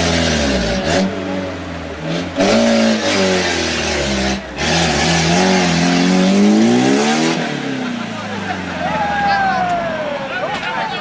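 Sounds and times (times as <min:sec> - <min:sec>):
vehicle engine revving hard: 0:00.0 - 0:10.3.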